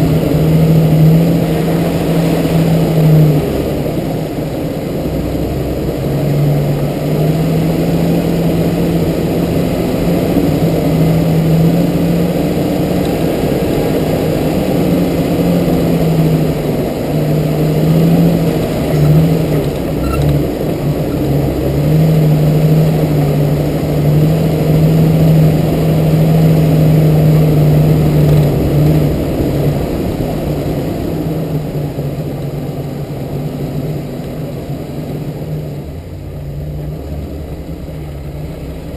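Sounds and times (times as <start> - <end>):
car engine running: 0.0 - 38.9
road noise: 0.0 - 38.9.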